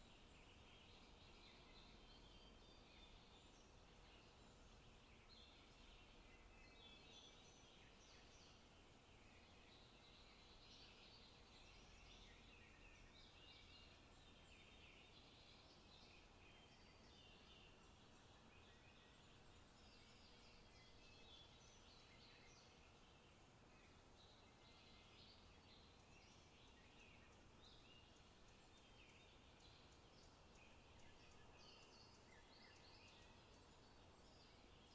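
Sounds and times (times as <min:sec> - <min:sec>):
low background hiss: 0:00.0 - 0:34.9
songbirds chirping and singing: 0:00.0 - 0:34.9.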